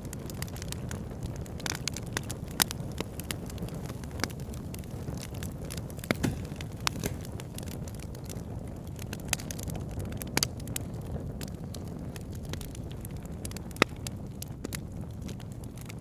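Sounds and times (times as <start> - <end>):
fire crackling and popping: 0.0 - 16.0
fire roaring in a fireplace: 0.0 - 16.0.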